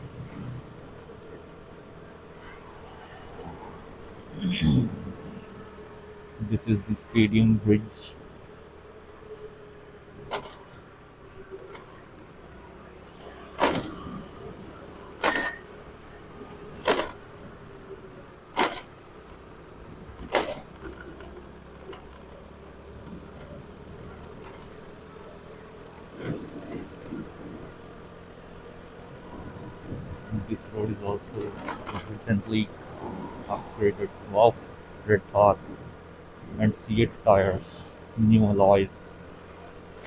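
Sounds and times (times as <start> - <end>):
vehicle engine and road hum: 0.0 - 40.0.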